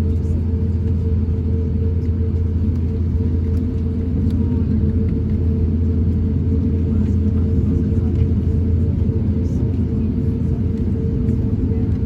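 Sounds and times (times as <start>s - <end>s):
low rumble of aircraft cabin: 0.0s - 12.0s
mid-pitched hum: 0.0s - 12.0s.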